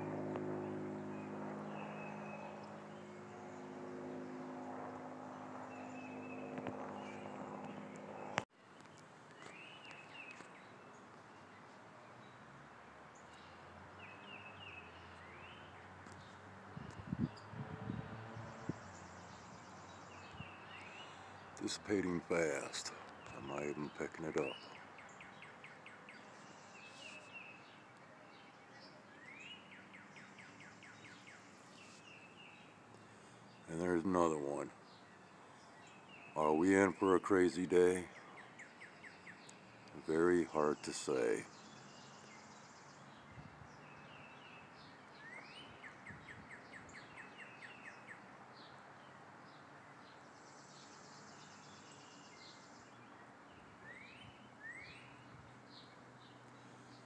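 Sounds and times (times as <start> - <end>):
songbird song: 0.0 - 57.0
faint outdoor hiss: 4.9 - 17.6, 18.2 - 57.0.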